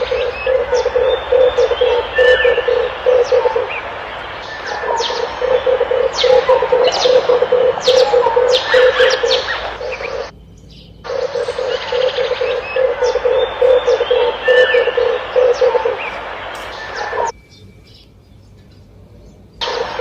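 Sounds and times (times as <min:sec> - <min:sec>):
dove cooing: 0:00.0 - 0:10.3, 0:11.1 - 0:17.3, 0:19.6 - 0:20.0
small birds chirping: 0:00.0 - 0:20.0.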